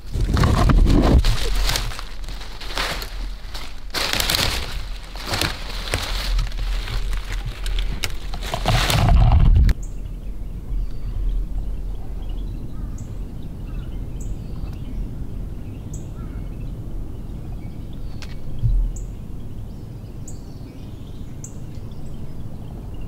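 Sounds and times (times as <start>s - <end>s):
birds chirping faintly: 0.0s - 23.0s
steady low rumble: 0.0s - 23.0s.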